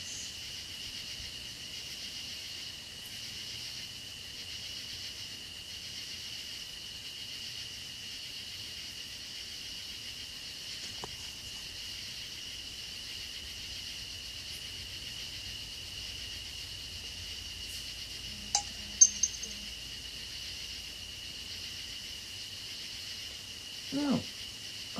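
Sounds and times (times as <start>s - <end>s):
insects singing: 0.0s - 24.9s.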